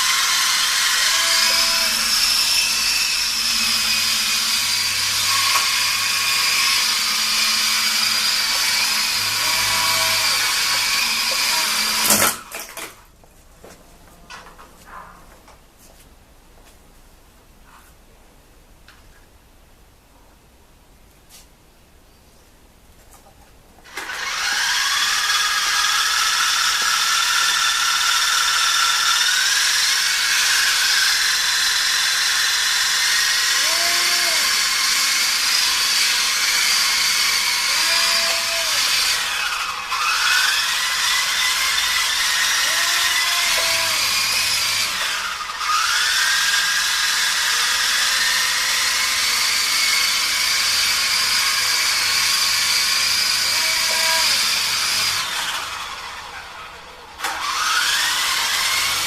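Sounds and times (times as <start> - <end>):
model helicopter motor whine: 0.0 - 12.5, 23.9 - 59.0.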